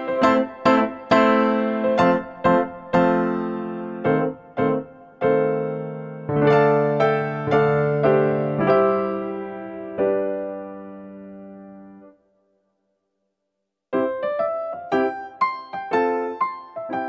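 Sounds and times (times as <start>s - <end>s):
electric piano music: 0.0s - 12.2s, 13.9s - 17.0s.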